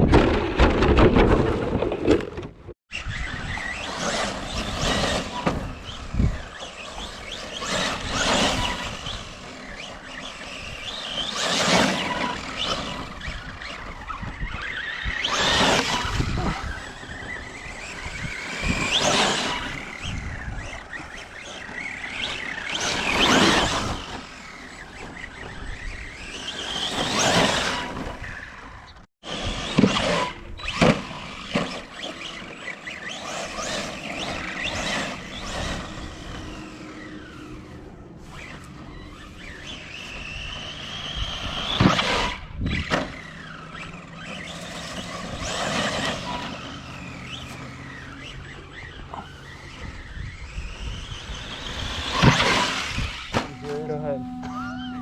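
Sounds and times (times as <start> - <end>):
electric toy truck motors whining: 2.9 - 55.0.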